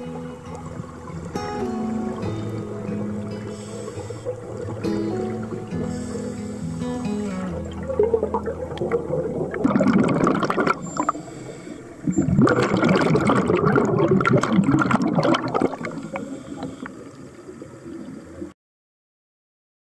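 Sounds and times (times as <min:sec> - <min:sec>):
underwater air bubbling: 0:00.0 - 0:18.5.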